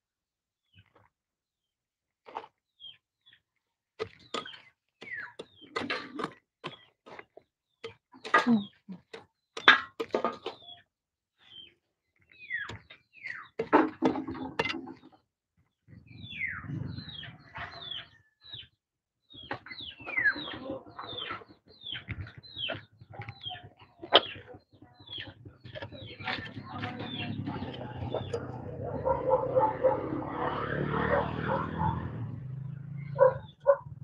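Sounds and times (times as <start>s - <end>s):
birds chirping: 4.0s - 34.0s.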